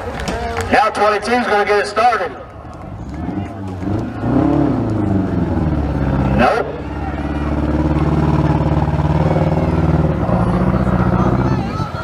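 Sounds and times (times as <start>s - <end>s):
car engines revving loudly: 1.8s - 12.0s.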